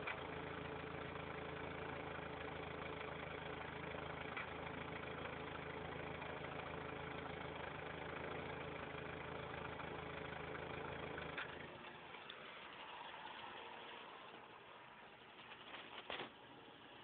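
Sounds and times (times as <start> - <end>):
car engine idling rough: 0.0 - 17.0.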